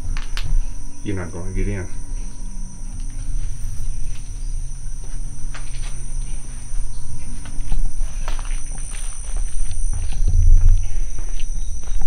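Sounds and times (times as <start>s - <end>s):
low steady rumble: 0.0s - 11.8s
crickets trilling: 0.0s - 12.0s.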